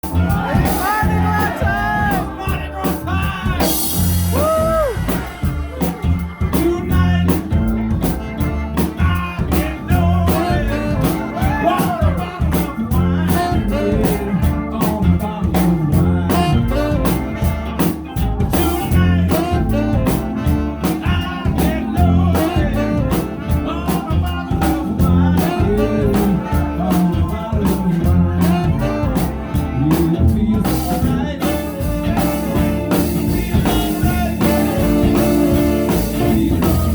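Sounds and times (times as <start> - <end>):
drum kit: 0.0 - 36.9
guitar with bending notes: 0.0 - 36.9
person singing: 0.0 - 36.9.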